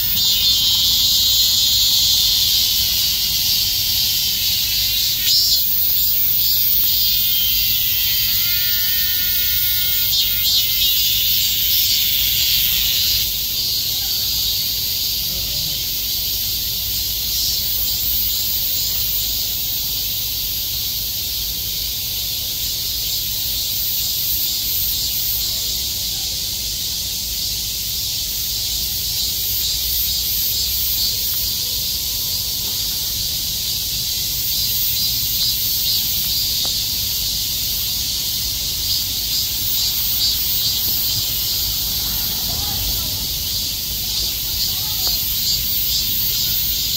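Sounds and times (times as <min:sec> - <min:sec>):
cicadas droning: 0:00.0 - 0:46.9.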